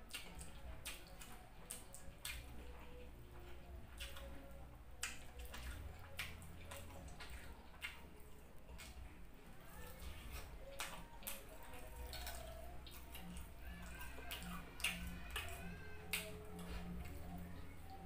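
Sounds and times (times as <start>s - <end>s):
wet chewing and mouth sounds: 0.0s - 18.0s.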